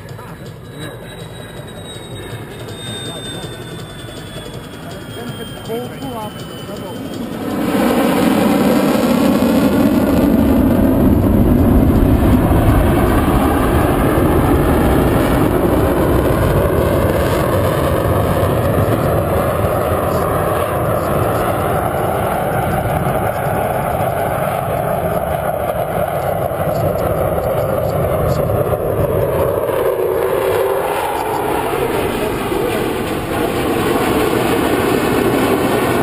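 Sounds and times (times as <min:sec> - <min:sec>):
jet engine roaring: 0:00.0 - 0:36.0.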